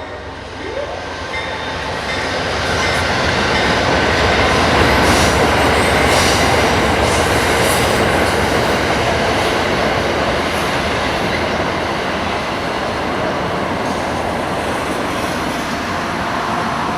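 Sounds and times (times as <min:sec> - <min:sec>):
train wheels on rails: 0:01.2 - 0:16.9.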